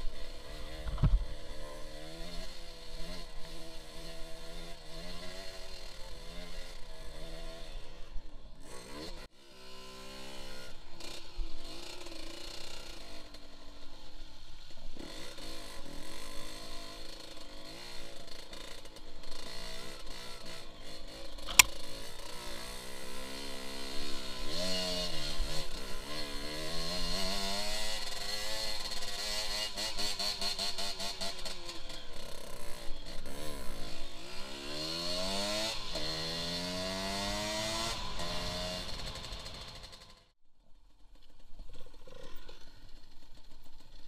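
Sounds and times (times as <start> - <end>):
dirt bike engine revving: 0.0 - 13.6, 15.0 - 40.2.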